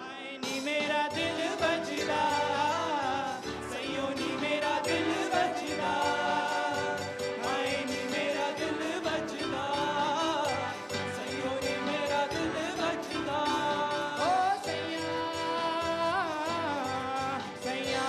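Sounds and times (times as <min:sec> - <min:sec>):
acoustic guitar: 0:00.0 - 0:18.0
drums: 0:00.0 - 0:18.0
keyboard: 0:00.0 - 0:18.0
person singing: 0:00.0 - 0:18.0.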